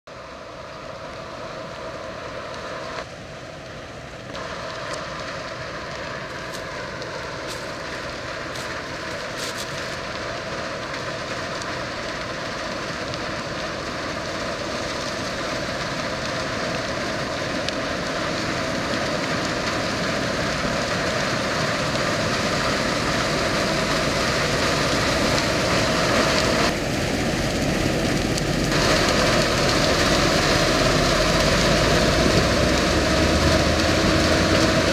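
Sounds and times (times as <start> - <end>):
combine harvester running: 4.3 - 34.9.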